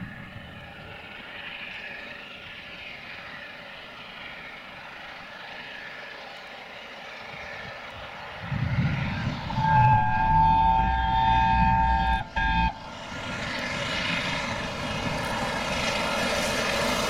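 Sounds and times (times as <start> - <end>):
deep rumble of engine: 0.0 - 17.0
steam train approaching: 0.0 - 17.0.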